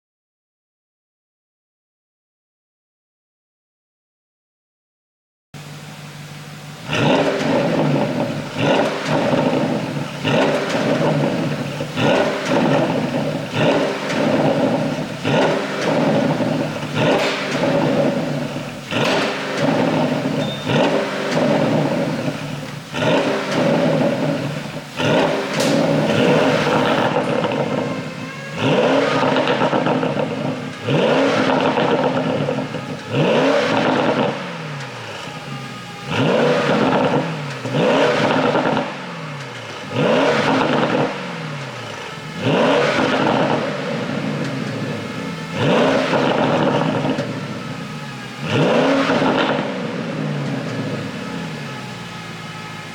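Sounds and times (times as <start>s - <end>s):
car exhaust revving: 5.6s - 52.9s.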